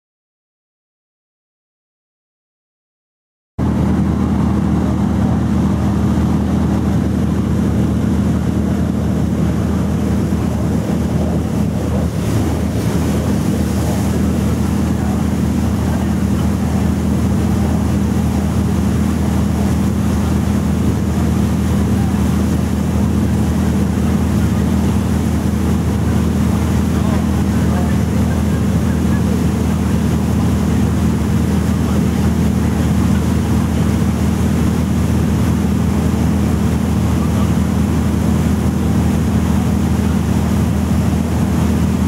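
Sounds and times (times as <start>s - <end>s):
boat diesel engine droning: 3.6s - 42.0s
water wash: 3.6s - 42.0s
wind on microphone: 3.6s - 42.0s.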